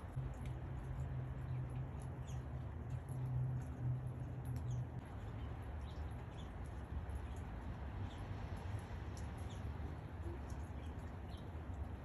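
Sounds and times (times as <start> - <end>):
small birds chirping: 1.3 - 12.0.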